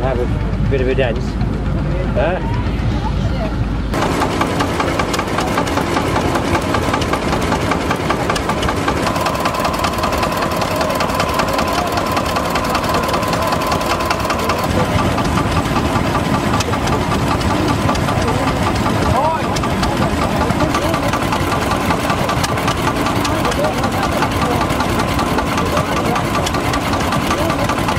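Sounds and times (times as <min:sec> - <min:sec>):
stationary engines knocking: 0:00.0 - 0:27.9
steady whine: 0:00.0 - 0:27.9.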